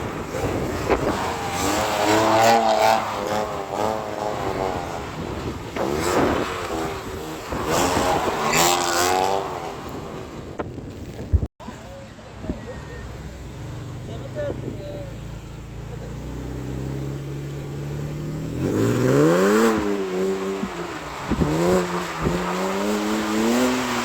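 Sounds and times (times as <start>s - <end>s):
car engine revving hard: 0.0s - 10.5s, 13.5s - 24.0s.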